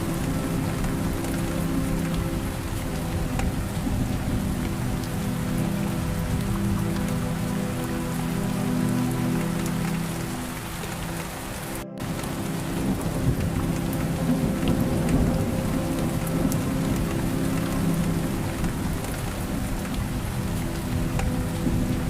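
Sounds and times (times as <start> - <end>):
thunder rumbling: 0.0 - 7.8, 12.0 - 22.0
steady rain falling: 0.0 - 22.0.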